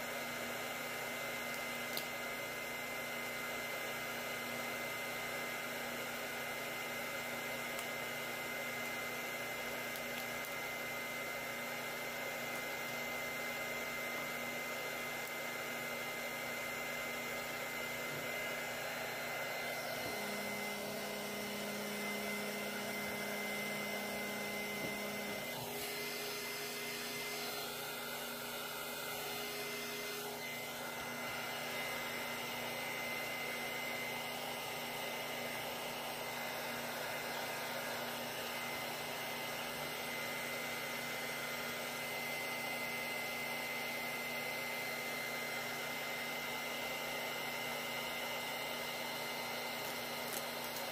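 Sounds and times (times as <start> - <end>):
air blower whining: 0.0 - 50.9.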